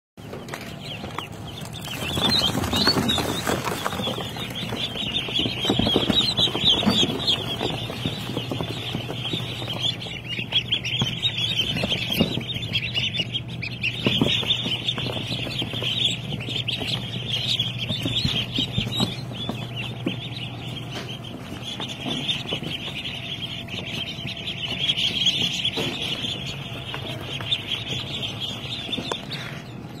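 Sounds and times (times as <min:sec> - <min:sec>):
ducklings peeping: 0:00.2 - 0:30.0.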